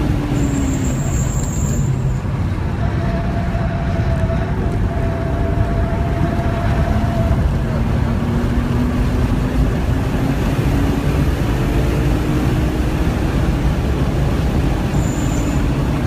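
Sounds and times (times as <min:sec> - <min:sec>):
car engine accelerating: 0:00.0 - 0:16.0
wind and road noise: 0:00.0 - 0:16.0.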